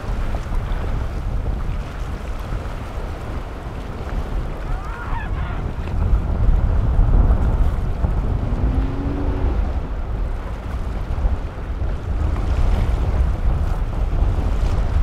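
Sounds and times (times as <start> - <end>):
outboard boat motor running: 0.0 - 15.0
rush of waves: 0.0 - 15.0
wind rumbling on microphone: 0.0 - 15.0.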